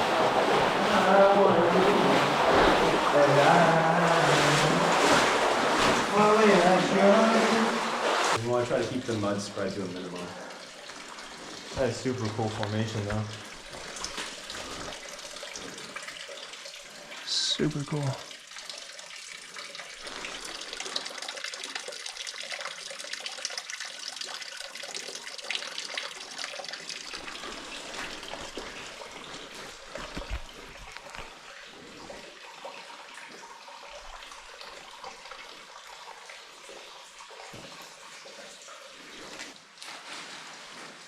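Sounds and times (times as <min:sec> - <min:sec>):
spring water trickling: 0:00.0 - 0:39.7.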